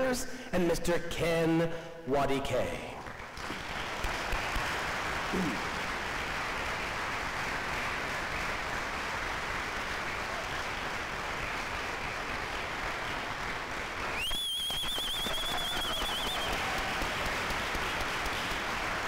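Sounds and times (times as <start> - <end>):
audience applauding: 3.0 - 19.0.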